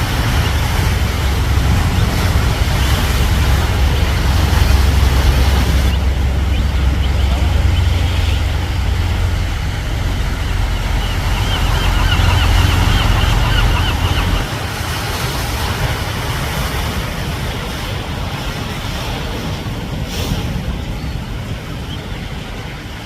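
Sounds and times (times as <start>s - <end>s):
surf washing against rocks: 0.0s - 23.0s
wind buffeting microphone: 0.0s - 23.0s.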